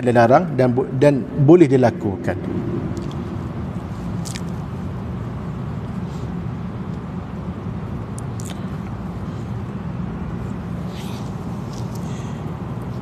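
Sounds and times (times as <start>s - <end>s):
low room noise rumble: 0.0s - 13.0s.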